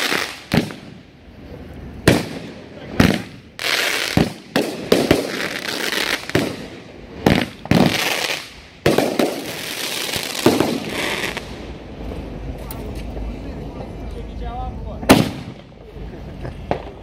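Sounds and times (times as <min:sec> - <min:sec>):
fireworks bangs: 0:00.0 - 0:01.2, 0:02.0 - 0:13.3, 0:15.0 - 0:17.0
steady hiss: 0:00.0 - 0:17.0.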